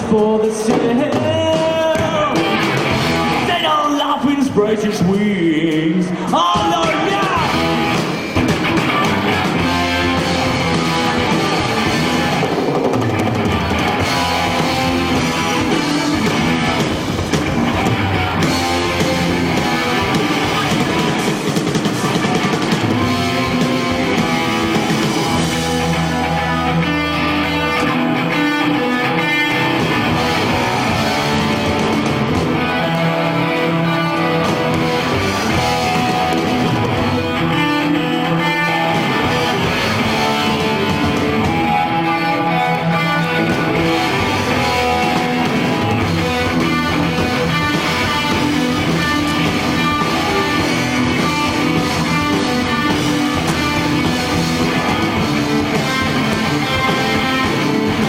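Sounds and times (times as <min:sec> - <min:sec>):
bass guitar: 0:00.0 - 0:58.0
distorted electric guitars: 0:00.0 - 0:58.0
drum kit: 0:00.0 - 0:58.0.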